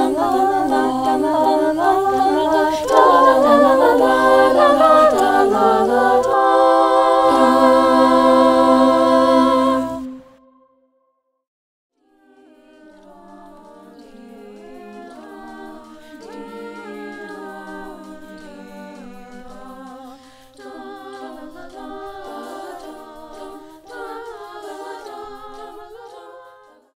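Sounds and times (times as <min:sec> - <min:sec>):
choir singing a cappella: 0:00.0 - 0:10.7, 0:12.0 - 0:27.0.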